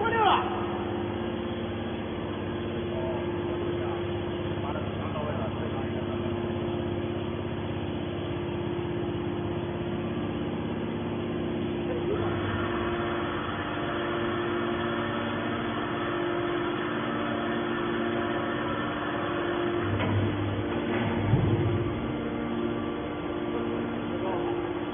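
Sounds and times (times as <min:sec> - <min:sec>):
baler pump motor humming: 0:00.0 - 0:24.9.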